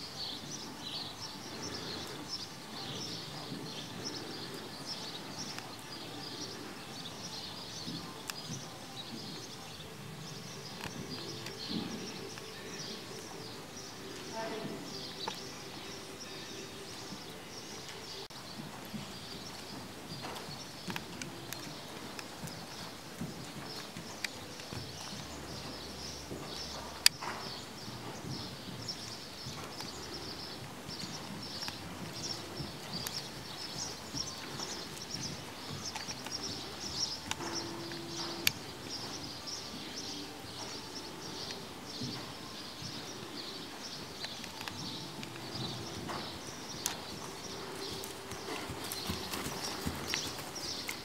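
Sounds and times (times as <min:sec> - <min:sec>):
horse hooves trotting on sand: 0:00.0 - 0:51.0.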